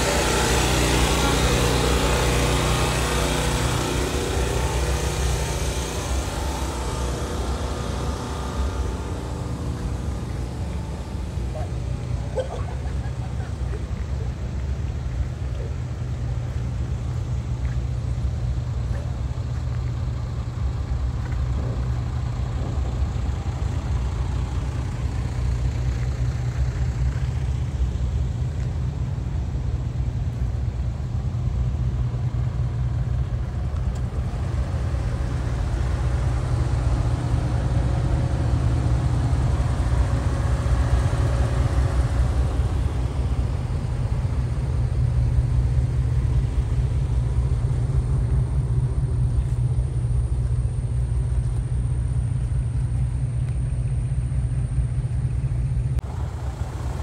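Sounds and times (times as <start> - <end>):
truck diesel engine rumbling: 0.0 - 57.0.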